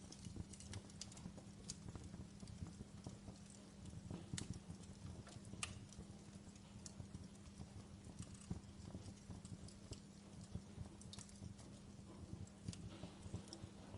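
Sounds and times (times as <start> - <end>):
logs crackling and popping: 0.0 - 13.9
low rumble of flames: 0.0 - 13.9.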